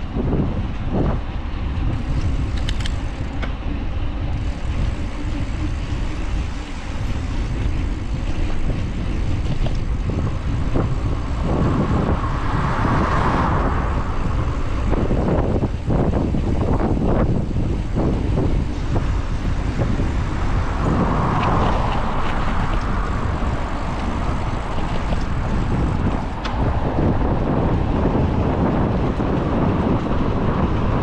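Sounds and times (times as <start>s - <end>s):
street traffic: 0.0s - 31.0s
wind rumble on microphone: 0.0s - 31.0s
vehicle passing: 4.4s - 31.0s.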